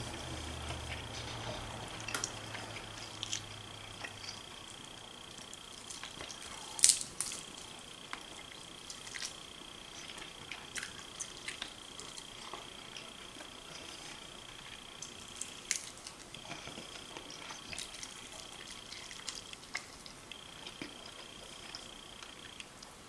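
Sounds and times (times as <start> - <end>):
wet clicks and smacks of eating: 2.0 - 9.4, 10.0 - 22.9.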